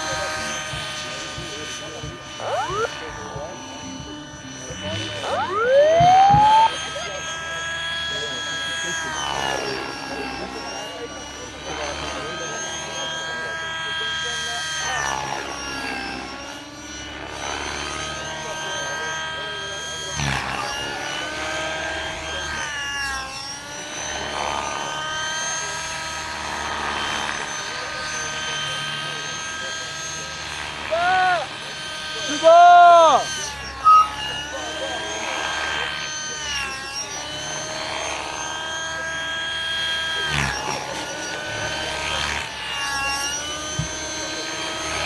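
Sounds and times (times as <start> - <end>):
model airplane engine: 0.0 - 45.0.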